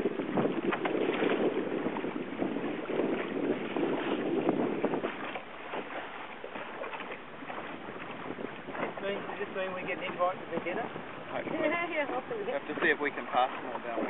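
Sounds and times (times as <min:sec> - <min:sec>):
water splashing along boat hull: 0:00.0 - 0:14.0
wind buffeting microphone: 0:00.0 - 0:14.0.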